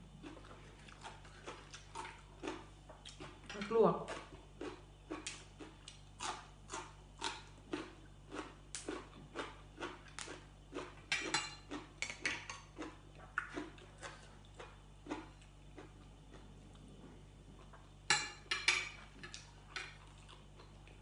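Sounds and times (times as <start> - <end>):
chewing crunchy green bean: 0.1 - 17.9, 19.3 - 21.0.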